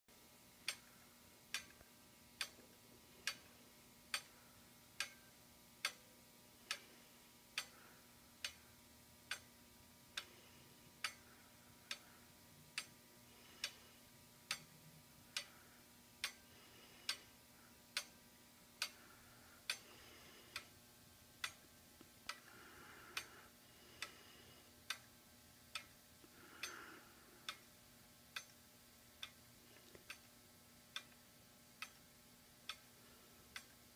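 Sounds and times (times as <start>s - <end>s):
clockwork mechanism ticking: 0.4s - 33.9s.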